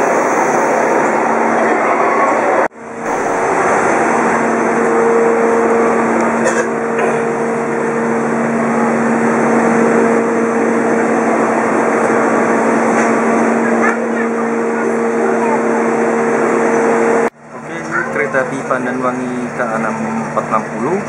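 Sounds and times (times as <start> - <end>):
diesel train machinery drone: 0.0 - 21.0
constant low hum: 2.7 - 21.0.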